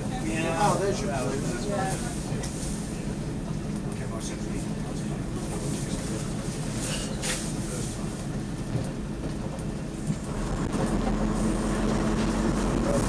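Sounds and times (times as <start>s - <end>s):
diesel engine hum: 0.0s - 13.0s
train wheels on track: 0.0s - 13.0s.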